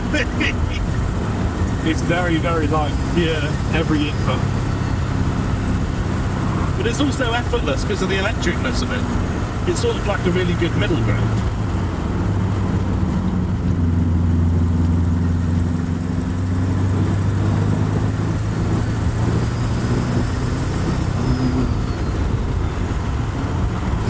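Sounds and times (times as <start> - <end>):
car engine cruising drone: 0.0 - 24.0.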